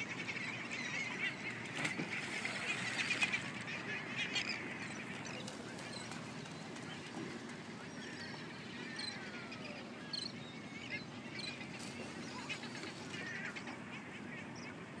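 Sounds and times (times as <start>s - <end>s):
water: 0.0s - 15.0s
wind: 0.0s - 15.0s.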